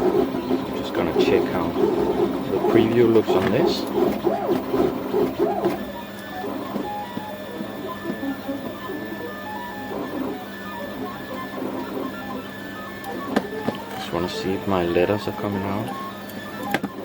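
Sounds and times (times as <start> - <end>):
printer stepper motors humming: 0.0 - 17.0.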